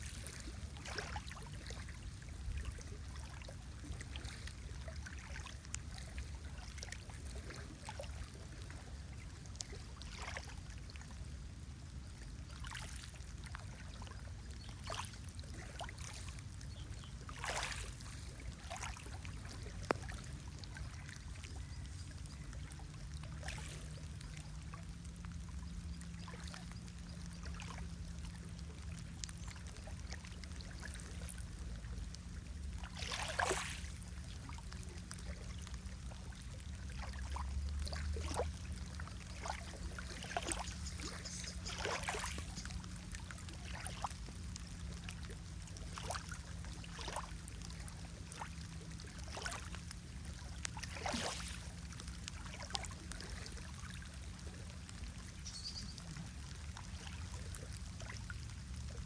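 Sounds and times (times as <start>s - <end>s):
lake water lapping: 0.0s - 59.0s
small water splashes: 0.0s - 59.0s
steady low hum: 0.0s - 59.0s.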